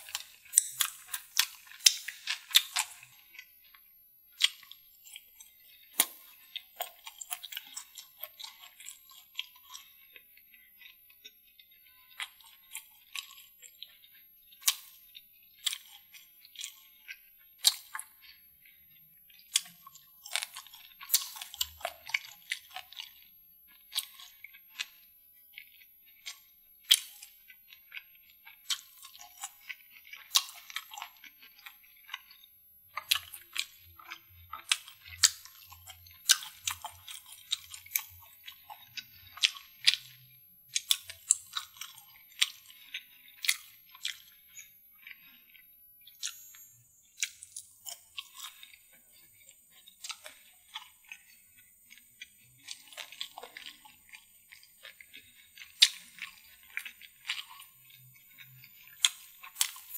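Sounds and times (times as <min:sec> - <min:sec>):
wet chewing: 0:00.0 - 0:59.9.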